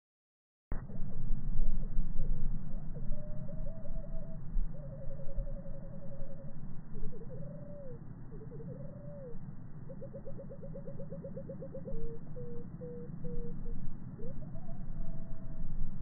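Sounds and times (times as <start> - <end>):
low rumble: 0.7 - 9.9, 12.0 - 16.0
bird singing trills and whistles: 2.8 - 15.8.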